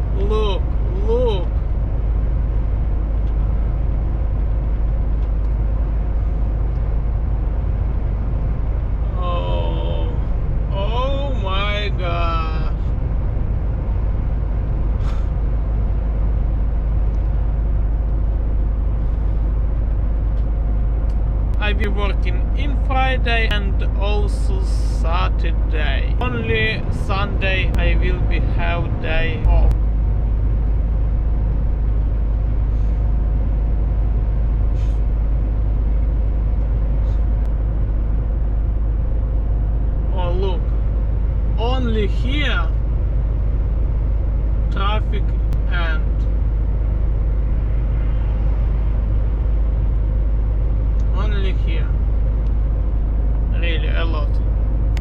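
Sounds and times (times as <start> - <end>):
faint steady hum: 0.0 - 55.0
truck engine and road rumble: 0.0 - 55.0.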